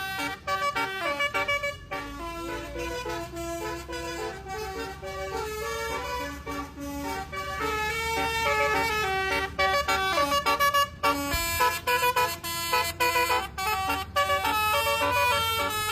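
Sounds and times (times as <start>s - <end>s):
multi-tone air horn melody: 0.0s - 15.9s.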